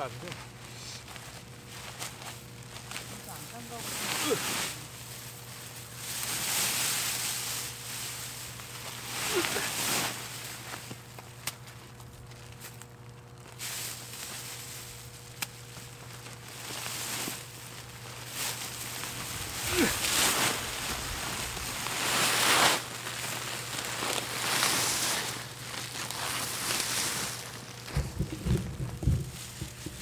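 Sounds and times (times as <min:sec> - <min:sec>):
plastic film rustling and crinkling: 0:00.0 - 0:30.0.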